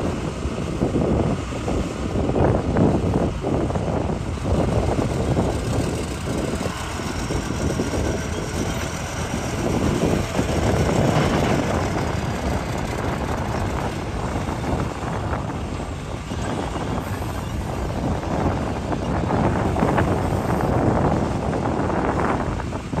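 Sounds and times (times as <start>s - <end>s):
excavator diesel engine rumbling: 0.0s - 23.0s.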